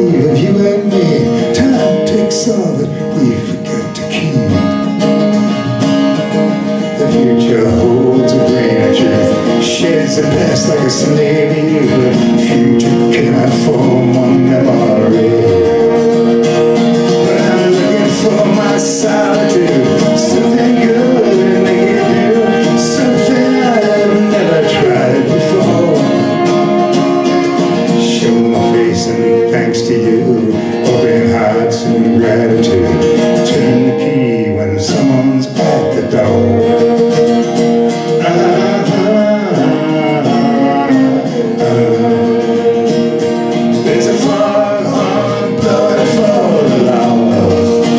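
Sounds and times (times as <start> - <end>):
strummed acoustic guitar: 0.0 - 47.9
violin melody: 5.1 - 33.4, 36.0 - 47.9.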